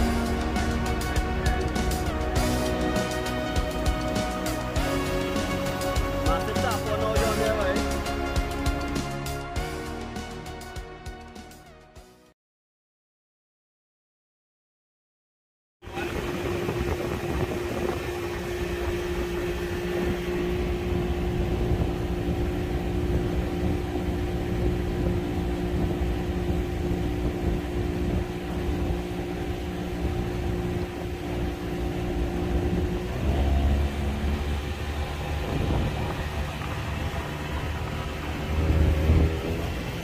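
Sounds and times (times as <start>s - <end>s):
boat motor humming: 0.0s - 11.8s, 15.8s - 40.0s.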